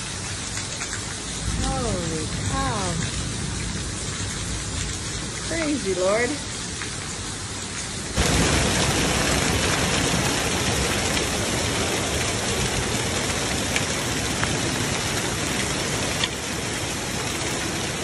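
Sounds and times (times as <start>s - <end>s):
heavy rain and hail hiss: 0.0s - 18.0s
hailstones ticking: 0.8s - 6.8s, 8.2s - 18.0s.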